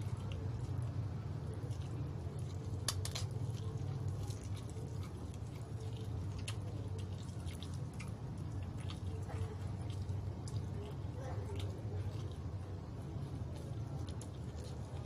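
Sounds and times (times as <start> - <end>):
person chewing fried chicken: 0.0 - 15.0
steady low hum: 0.0 - 15.0.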